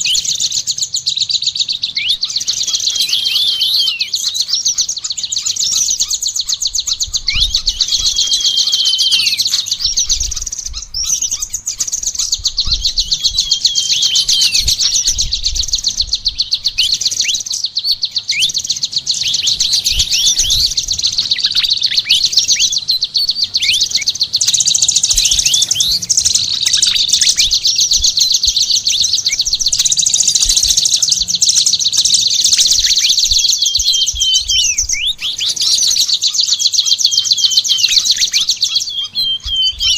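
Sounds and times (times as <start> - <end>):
songbird singing rapid chatter: 0.0 - 39.9.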